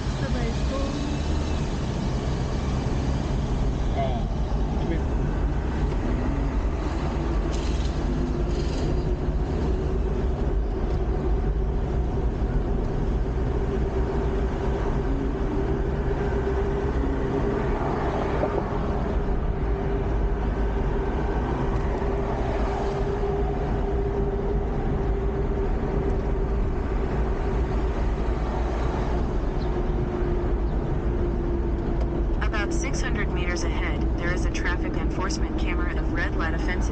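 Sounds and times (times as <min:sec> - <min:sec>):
van engine and tyres rumbling: 0:00.0 - 0:36.9.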